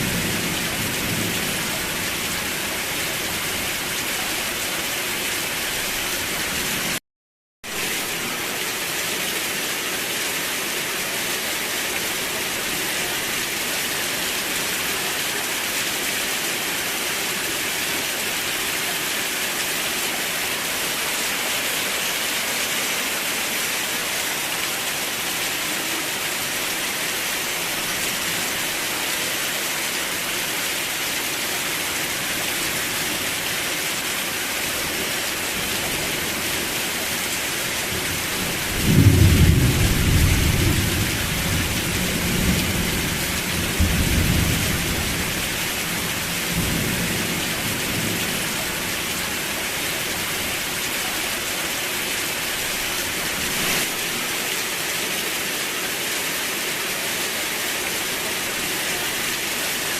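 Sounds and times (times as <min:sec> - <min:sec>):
heavy rain hissing: 0:00.0 - 0:07.0, 0:07.7 - 0:59.9.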